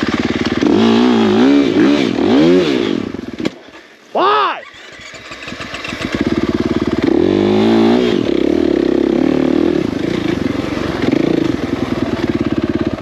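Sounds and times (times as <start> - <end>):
dirt bike engine revving: 0.0 - 3.5, 4.2 - 13.0.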